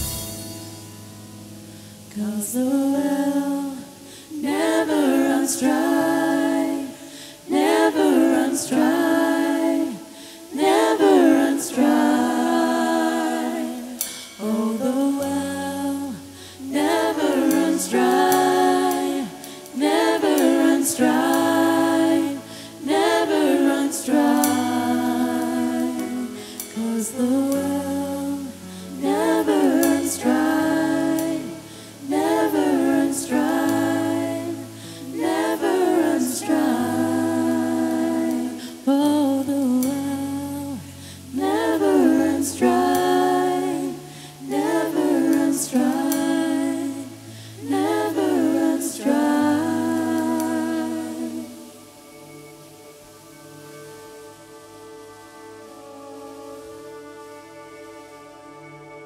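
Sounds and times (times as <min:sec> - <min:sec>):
low held accompanying chords: 0:00.0 - 0:59.0
slow worship singing: 0:00.0 - 0:59.0.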